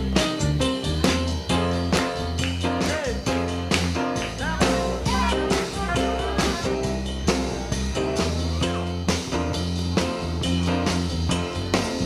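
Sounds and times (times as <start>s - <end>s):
bass: 0.0s - 12.0s
drum kit: 0.0s - 12.0s
rock band jamming: 0.0s - 12.0s.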